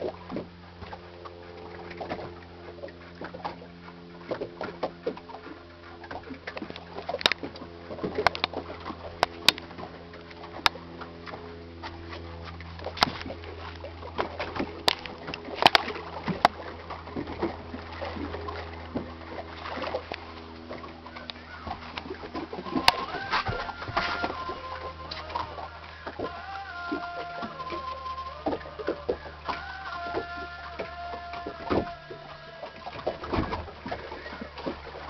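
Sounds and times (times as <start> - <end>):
steady low drone: 0.0 - 35.0
water slapping boat hull: 0.0 - 35.0.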